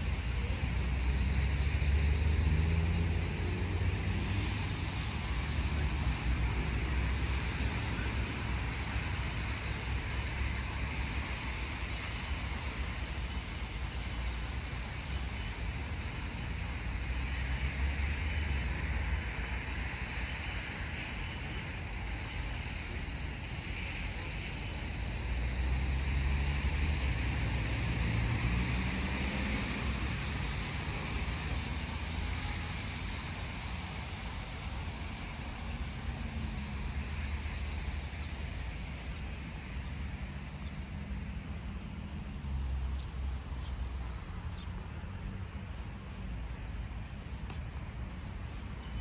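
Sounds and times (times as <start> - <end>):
distant traffic rumble: 0.0 - 49.0.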